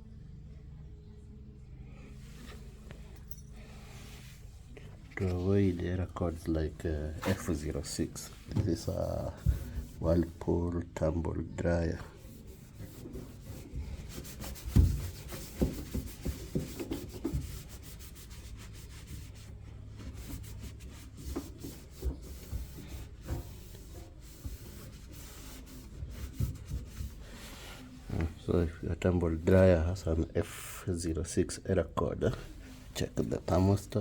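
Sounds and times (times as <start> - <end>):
hands rubbing and scraping parts: 2.2 - 10.6, 11.6 - 31.5, 32.2 - 34.0.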